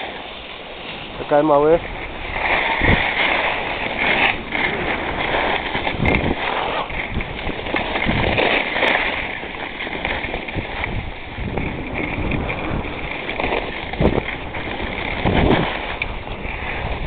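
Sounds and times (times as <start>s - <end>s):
skis scraping over snow: 0.0s - 17.0s
wind on microphone: 0.0s - 17.0s.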